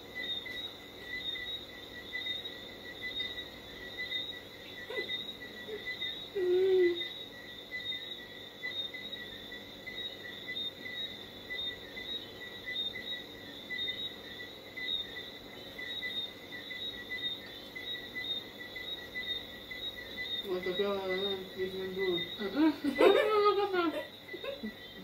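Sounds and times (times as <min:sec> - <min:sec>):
insects chirping in pulsing trill: 0:00.0 - 0:25.0.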